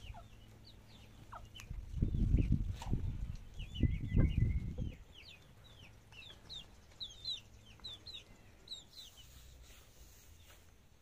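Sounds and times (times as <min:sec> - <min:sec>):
chicks cheeping: 0:00.0 - 0:11.0.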